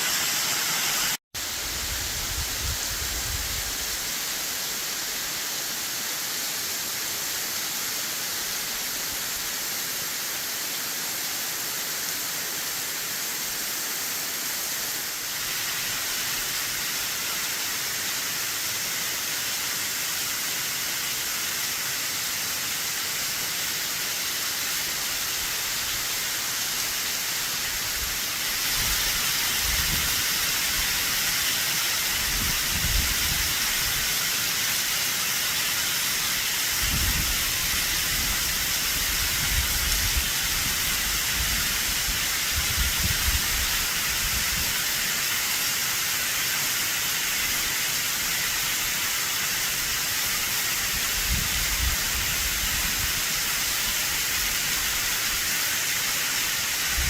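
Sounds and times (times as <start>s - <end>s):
waterfall rushing: 0.0s - 1.6s, 3.6s - 57.0s.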